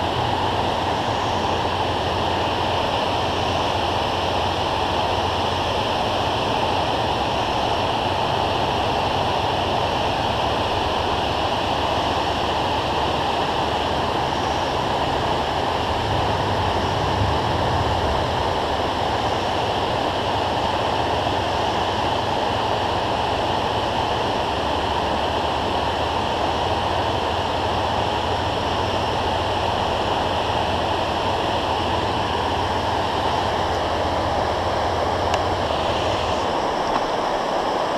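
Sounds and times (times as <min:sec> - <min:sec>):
water rushing over dam: 0:00.0 - 0:37.9.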